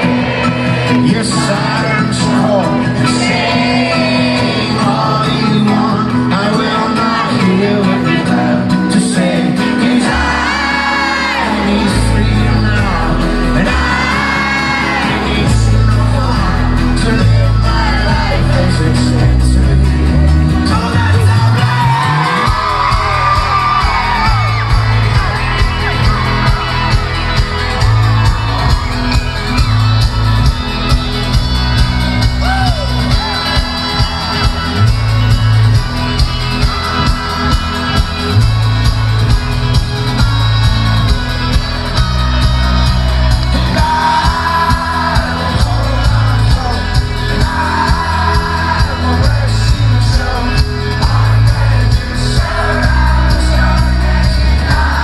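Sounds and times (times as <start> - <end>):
crowd shouting and singing: 0.0 - 55.0
live folk-rock band: 0.0 - 55.0
pulsing bass drum beat: 10.3 - 55.0.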